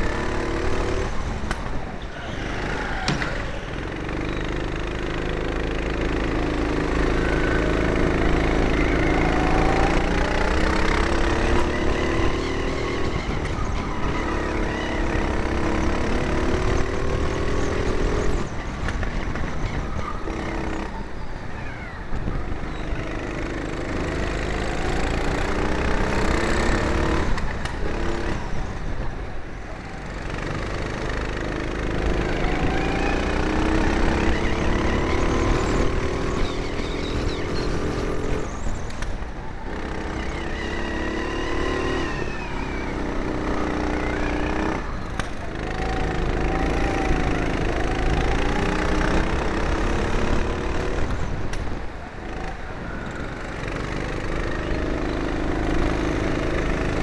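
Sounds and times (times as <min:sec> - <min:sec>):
go-kart engines revving: 0:00.0 - 0:57.0.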